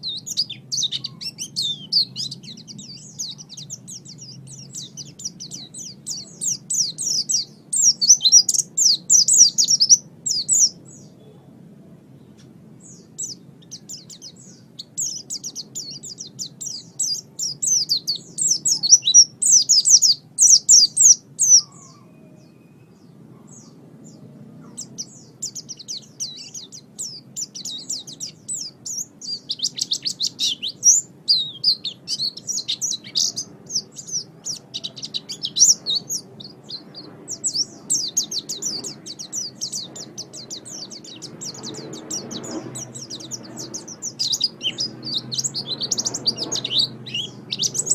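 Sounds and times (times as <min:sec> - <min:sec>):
bird twittering song: 0:00.0 - 0:47.9.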